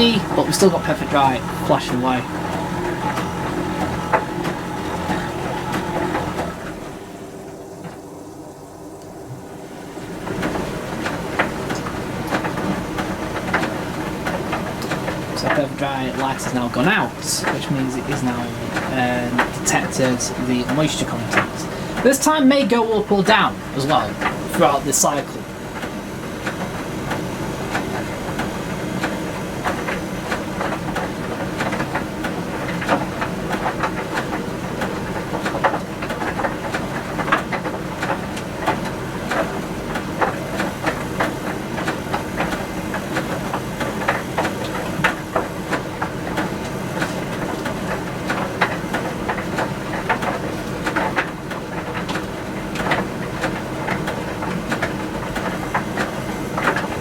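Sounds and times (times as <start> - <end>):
tumble dryer motor and fan hum: 0.0 - 57.0.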